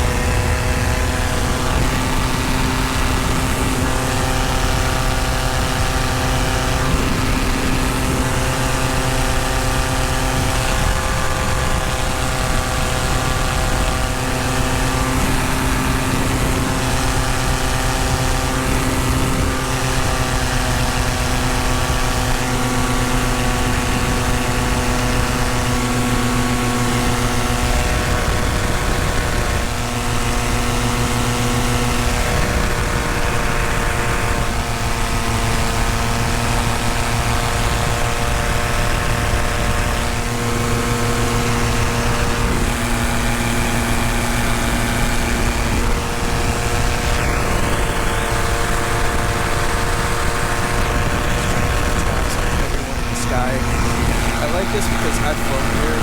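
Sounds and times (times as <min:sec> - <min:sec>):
paramotor engine drone: 0:00.0 - 0:56.0.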